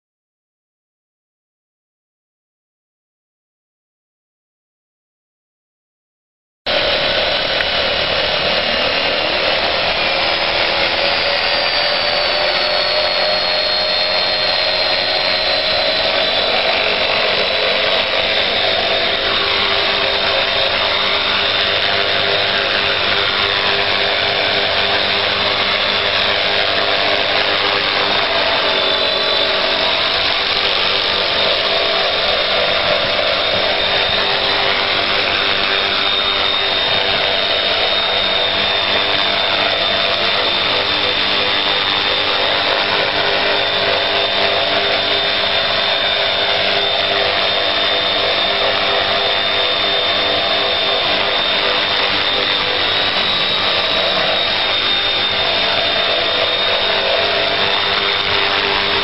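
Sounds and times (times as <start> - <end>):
rc helicopter high whine: 6.7 - 59.0.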